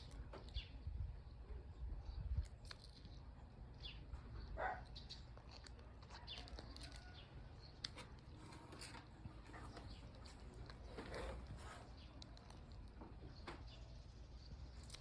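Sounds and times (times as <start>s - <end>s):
wild birds chirping: 2.9s - 15.0s.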